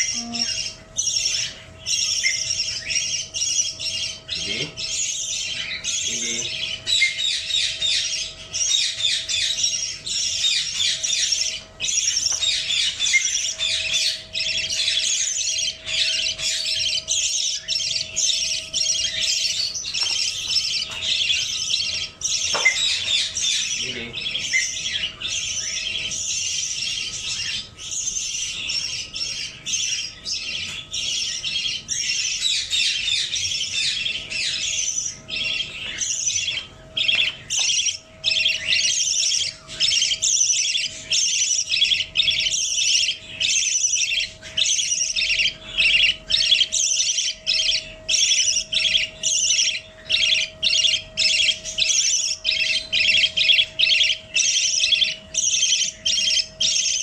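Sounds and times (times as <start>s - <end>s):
budgerigar chattering and squawking: 0.0s - 57.0s
faint steady hum: 0.0s - 57.0s.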